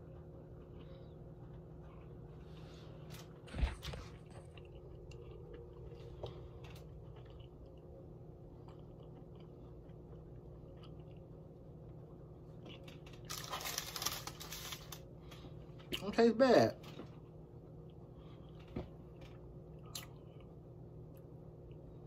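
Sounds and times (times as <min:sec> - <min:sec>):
person chewing food: 0:00.0 - 0:03.4, 0:04.2 - 0:14.2, 0:17.1 - 0:22.0
steady low hum: 0:00.0 - 0:22.0.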